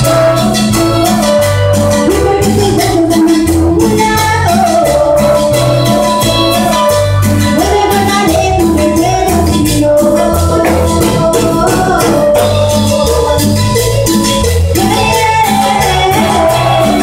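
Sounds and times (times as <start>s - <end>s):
woman singing: 0.0s - 6.8s, 7.5s - 13.8s, 14.7s - 17.0s
conga drums: 0.0s - 17.0s
latin dance band playing: 0.0s - 17.0s
pulsing bass: 0.0s - 17.0s.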